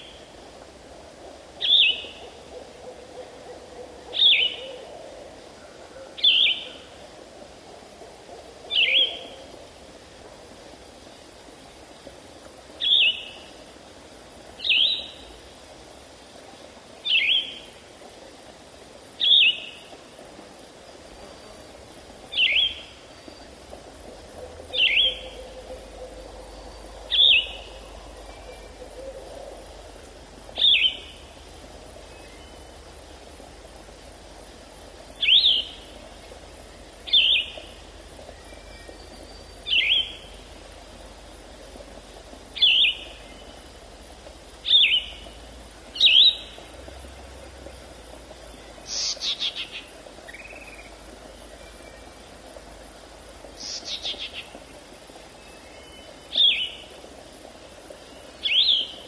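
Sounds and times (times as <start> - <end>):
insects hissing: 0.0 - 59.0.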